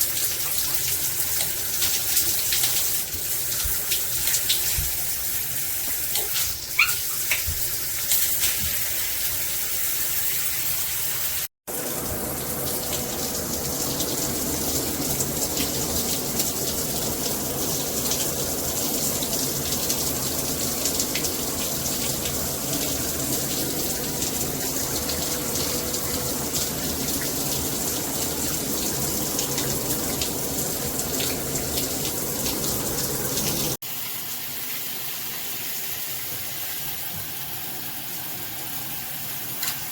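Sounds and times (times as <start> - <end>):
water spraying from shower head: 0.0 - 39.9.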